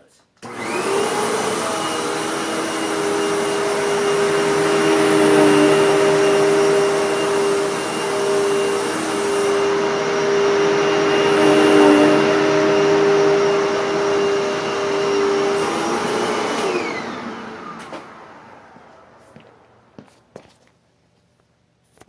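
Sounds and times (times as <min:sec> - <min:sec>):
vacuum cleaner motor whine: 0:00.4 - 0:19.8.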